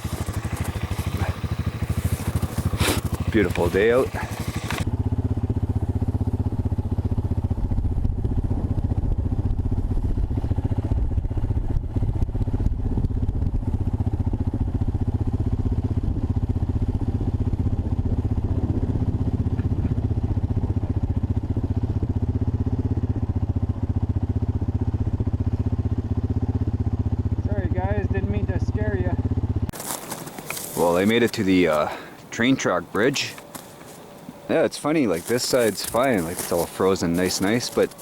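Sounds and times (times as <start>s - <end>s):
engine running while riding: 0.0s - 38.0s.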